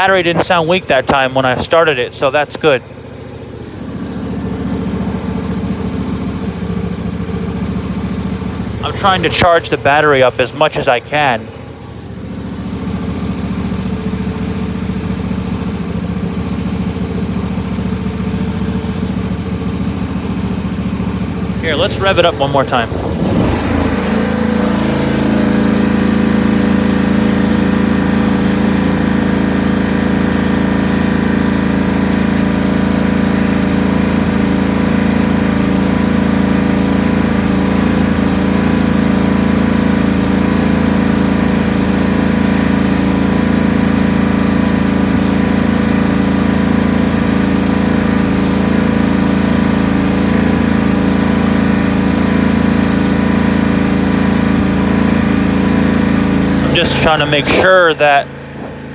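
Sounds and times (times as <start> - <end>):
riding lawn tractor engine: 0.0 - 58.9.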